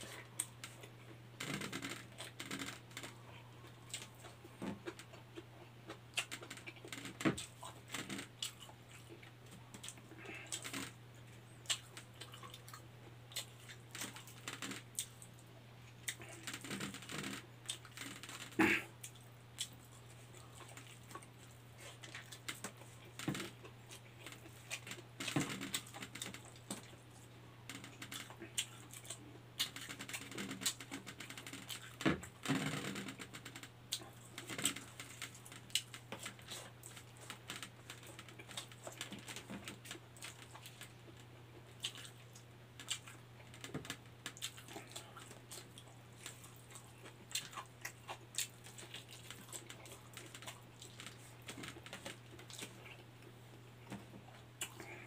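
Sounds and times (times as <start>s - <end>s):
person chewing: 0.0s - 41.0s, 41.6s - 53.1s, 53.8s - 55.0s.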